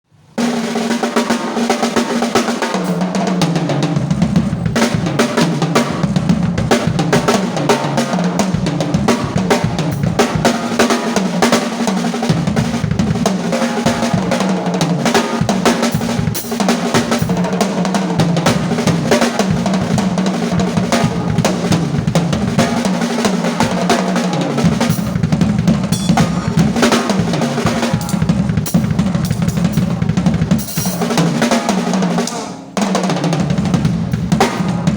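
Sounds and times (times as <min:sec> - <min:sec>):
drum kit playing: 0:00.2 - 0:34.9.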